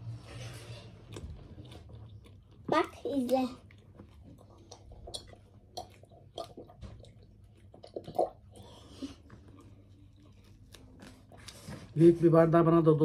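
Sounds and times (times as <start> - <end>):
chewing and mouth smacks: 0.9 - 11.6.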